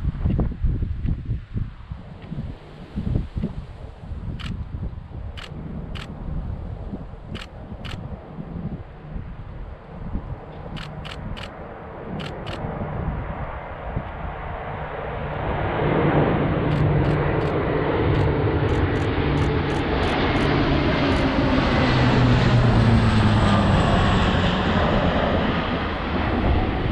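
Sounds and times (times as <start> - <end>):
turboprop aircraft drone: 0.0 - 26.9.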